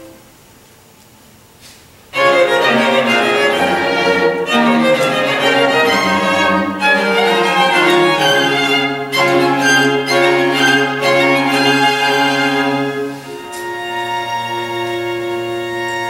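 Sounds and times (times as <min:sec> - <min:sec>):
cello line: 0:02.1 - 0:16.0
string quartet playing: 0:02.1 - 0:16.0.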